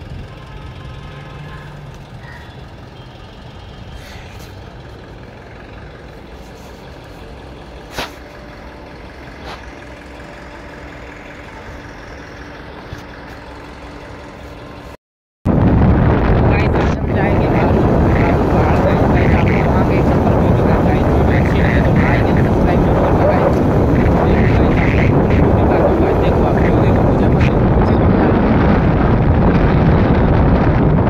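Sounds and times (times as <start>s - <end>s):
distant street traffic hum: 0.0s - 15.0s, 15.6s - 31.0s.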